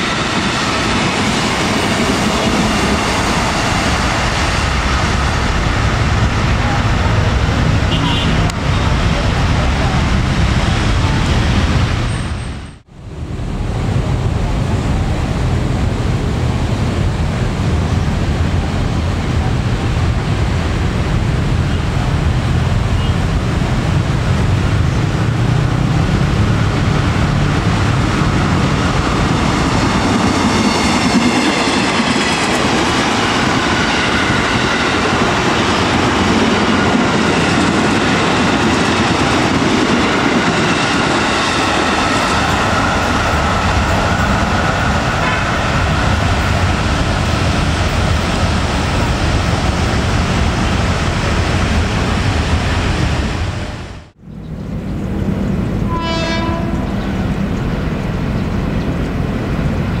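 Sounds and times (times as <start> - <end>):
high shifting train whine: 0.0 - 60.0
wheels rumbling on rail: 0.0 - 60.0.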